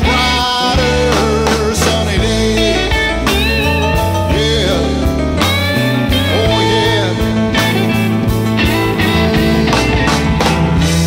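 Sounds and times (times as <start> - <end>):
song with guitar bass and drums: 0.0 - 11.0.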